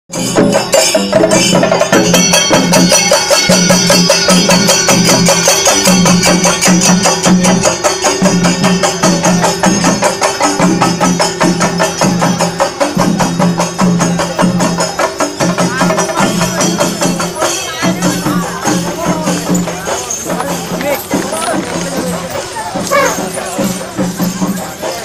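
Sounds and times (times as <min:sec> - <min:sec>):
drums beaten in rapid rhythm: 0:00.1 - 0:25.0.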